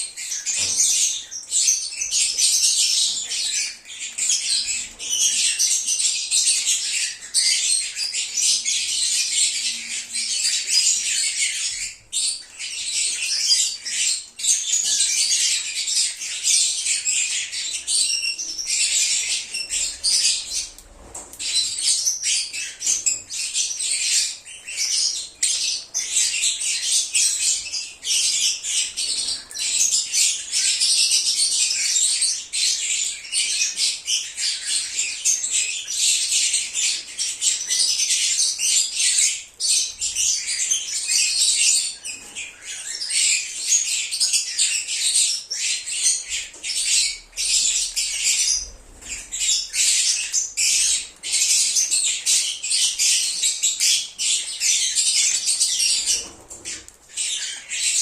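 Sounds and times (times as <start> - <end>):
lovebirds chattering and chirping: 0.0 - 58.0.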